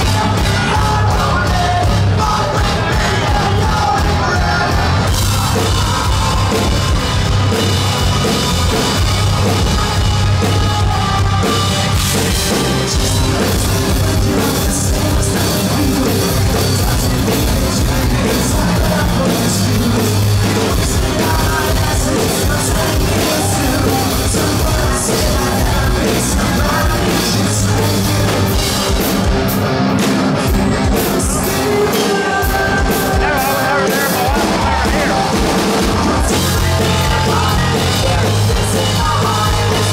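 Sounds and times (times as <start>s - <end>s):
person singing: 0.0s - 29.3s, 30.4s - 39.9s
bass guitar: 0.0s - 39.9s
distorted electric guitar: 0.0s - 39.9s
drum kit: 0.0s - 39.9s.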